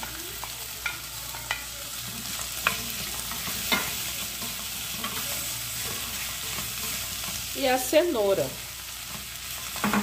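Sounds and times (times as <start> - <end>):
food sizzling in pot: 0.0 - 10.0.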